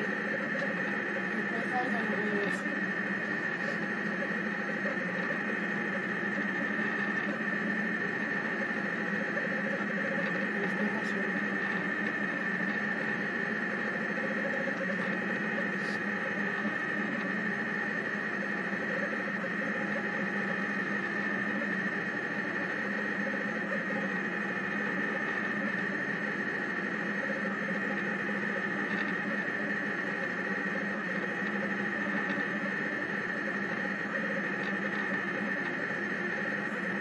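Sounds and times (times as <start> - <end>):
stepper motors whining: 0.0 - 37.0.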